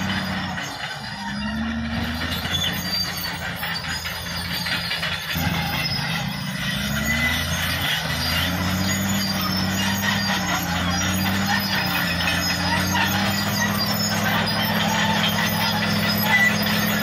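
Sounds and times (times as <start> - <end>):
bulldozer diesel engine under load: 0.0 - 17.0
steel tracks squealing and clanking: 0.0 - 17.0
blade pushing gravel: 1.8 - 17.0.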